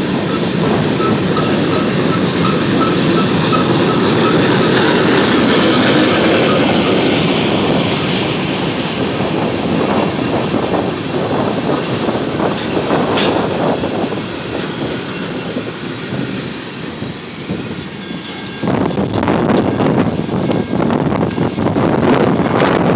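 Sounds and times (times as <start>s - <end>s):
train wheels clattering over rail joints: 0.0s - 22.9s
wind buffeting microphone: 0.0s - 22.9s.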